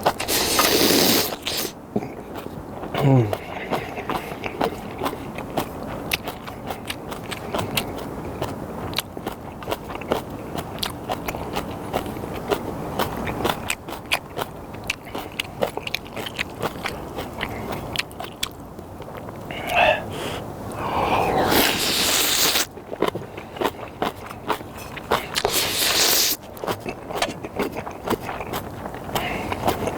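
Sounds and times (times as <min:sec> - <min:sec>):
chewing noodles with wet clicks: 0:00.0 - 0:19.4, 0:21.6 - 0:29.9.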